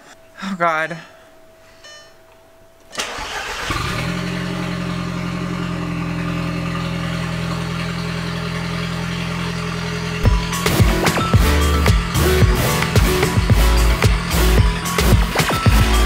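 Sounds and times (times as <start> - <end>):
car engine cranking and idling: 2.8 - 16.0.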